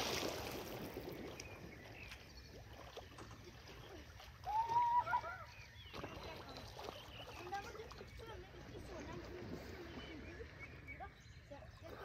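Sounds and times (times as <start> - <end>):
water churning and sloshing: 0.0 - 12.0.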